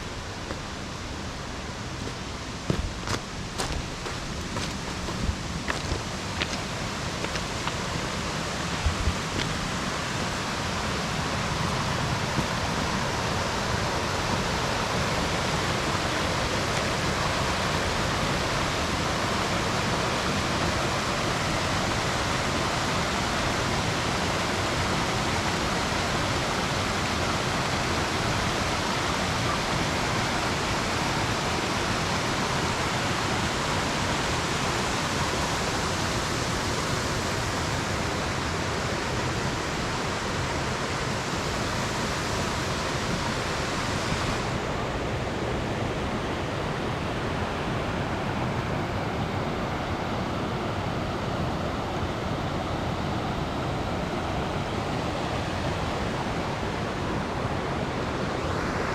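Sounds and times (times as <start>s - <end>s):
stream rushing over rocks: 0.0s - 58.9s.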